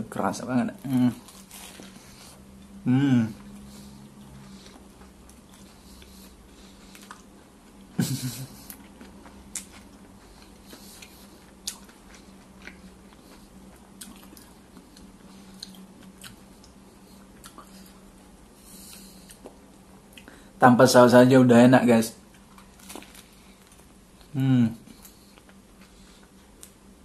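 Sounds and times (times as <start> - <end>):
faint steady hum: 0.0 - 27.0
person chewing food: 0.8 - 20.5, 22.2 - 27.0.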